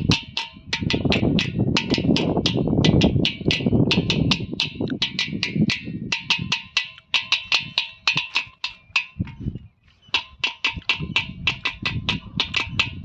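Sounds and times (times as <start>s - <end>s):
sharp clicking percussion strokes: 0.0s - 9.5s, 10.1s - 13.0s.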